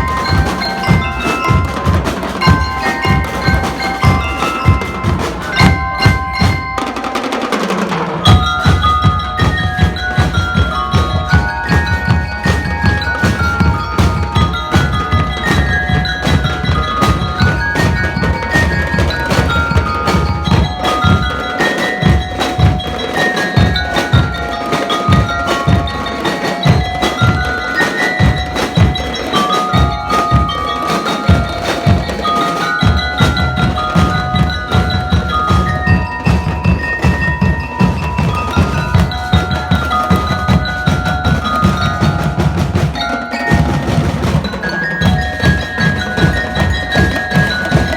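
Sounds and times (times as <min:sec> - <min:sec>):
bell lyres playing melody: 0:00.0 - 0:47.9
marching drums: 0:00.0 - 0:47.9.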